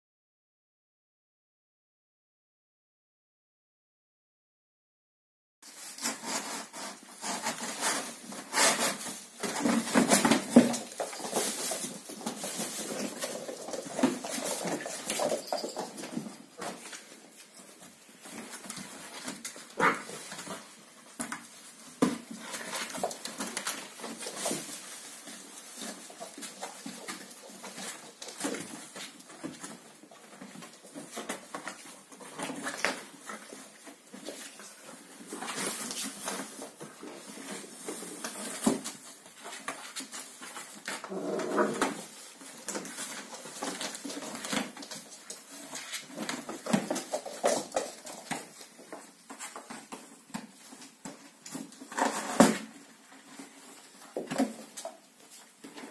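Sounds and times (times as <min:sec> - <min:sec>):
claws scrabbling on hard floor: 0:05.7 - 0:55.9.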